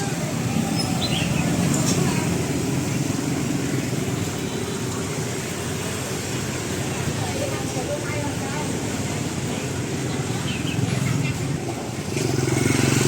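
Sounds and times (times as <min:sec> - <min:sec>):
people talking: 0:00.0 - 0:12.0
road traffic rumble: 0:00.0 - 0:13.0.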